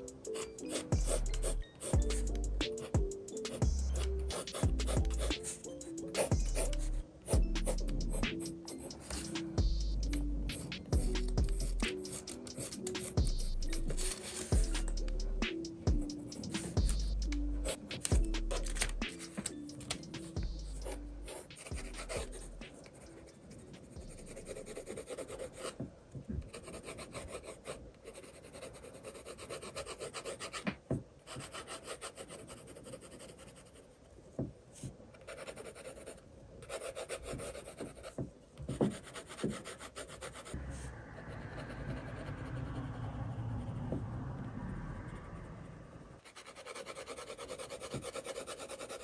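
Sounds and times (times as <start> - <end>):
pencil scratching on paper: 0.0 - 25.8, 26.4 - 34.0, 35.1 - 42.9, 46.2 - 49.0.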